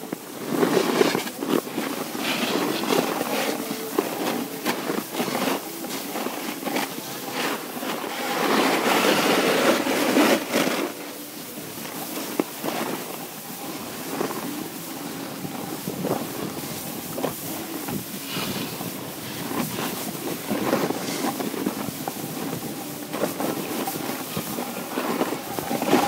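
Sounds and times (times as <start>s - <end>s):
skis scraping on snow: 0.0s - 26.0s
wind on microphone: 0.0s - 26.0s.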